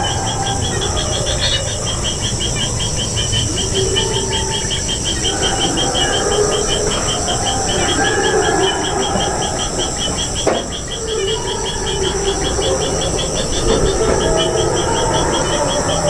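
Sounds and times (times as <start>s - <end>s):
high insect hum: 0.0s - 16.0s
insect chirping: 0.0s - 16.0s.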